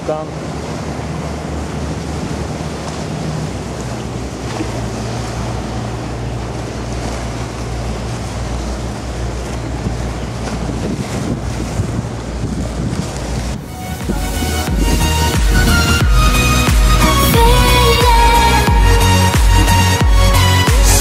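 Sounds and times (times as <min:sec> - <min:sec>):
boat engine droning: 0:00.0 - 0:21.0
wake splashing on water: 0:00.0 - 0:21.0.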